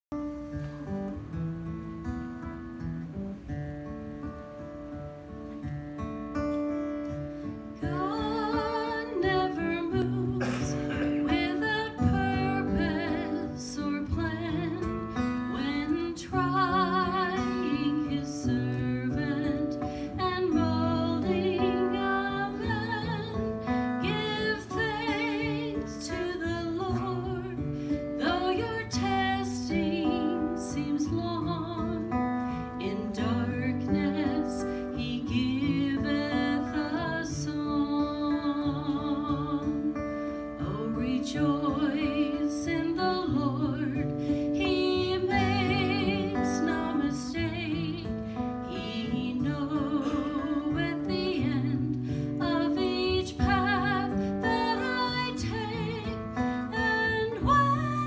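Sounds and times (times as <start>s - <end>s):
acoustic guitar: 0.0s - 58.0s
woman singing with vibrato: 7.8s - 58.0s.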